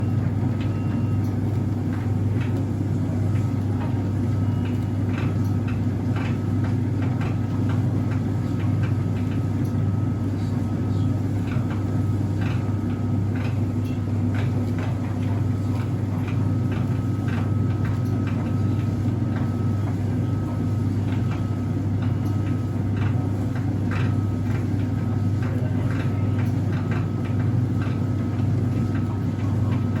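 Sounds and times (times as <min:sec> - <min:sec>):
tumble dryer humming: 0:00.0 - 0:30.0.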